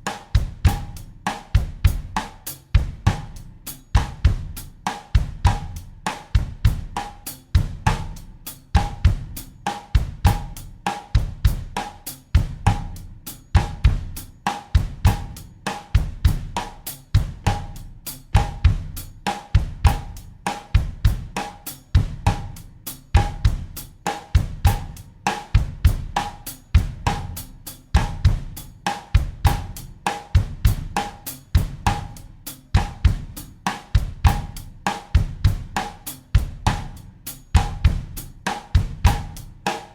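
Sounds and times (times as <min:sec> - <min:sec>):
bass drum: 0:00.0 - 0:39.7.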